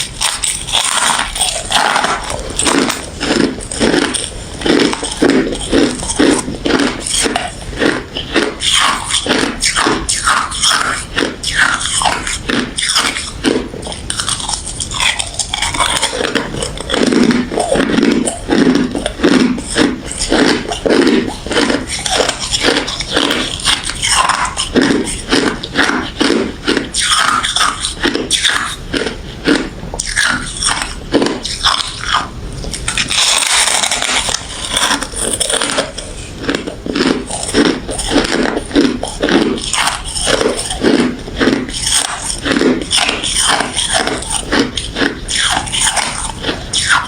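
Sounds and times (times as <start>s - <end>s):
crushed ice crunching: 0.0s - 32.2s, 32.9s - 47.0s.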